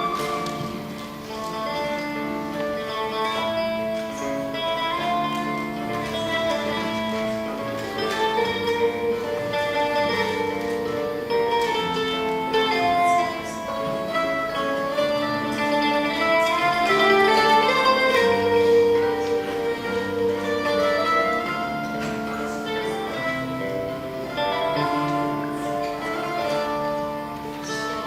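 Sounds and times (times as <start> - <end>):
plucked string ensemble music: 0.0 - 28.0.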